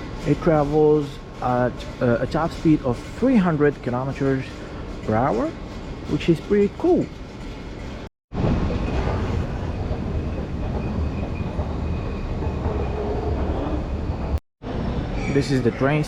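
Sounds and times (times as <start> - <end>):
high-speed train rumbling: 0.0 - 16.0.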